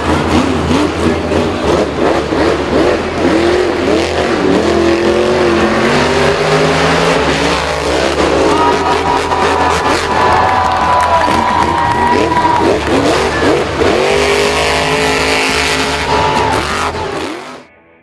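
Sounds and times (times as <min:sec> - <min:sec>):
engines revving: 0:00.0 - 0:17.7.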